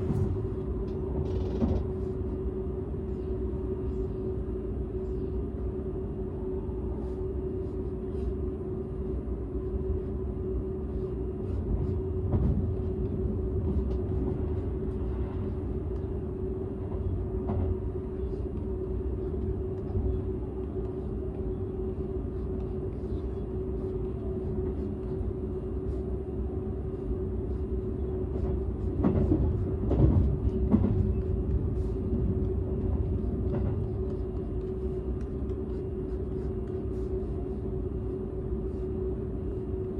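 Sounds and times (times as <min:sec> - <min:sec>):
train cabin rumble and hum: 0:00.0 - 0:39.9.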